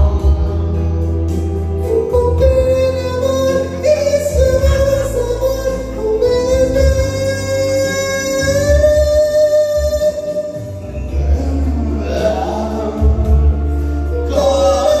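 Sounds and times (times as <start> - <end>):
backing music with bass: 0.0 - 15.0
person singing into microphone: 0.0 - 15.0.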